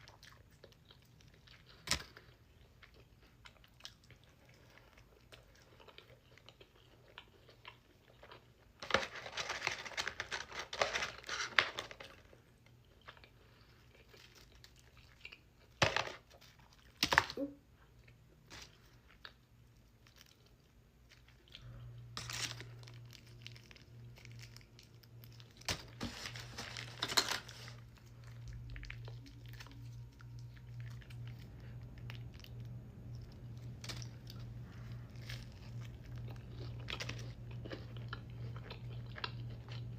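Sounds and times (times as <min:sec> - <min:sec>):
chewing and crunching: 0:00.0 - 0:39.9
low steady hum: 0:00.0 - 0:39.9
food wrapper crinkling: 0:05.0 - 0:17.5, 0:18.4 - 0:39.9.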